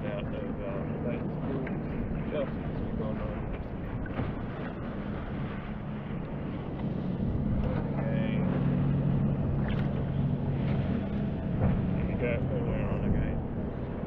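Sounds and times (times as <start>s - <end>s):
boat motor droning: 0.0s - 14.0s
noisy background: 0.0s - 14.0s.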